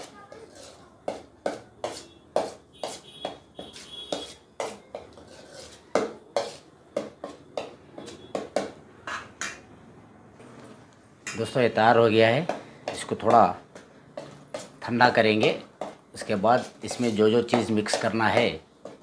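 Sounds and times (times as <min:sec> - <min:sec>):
spoon scraping metal pan: 0:00.0 - 0:09.7, 0:12.5 - 0:19.0.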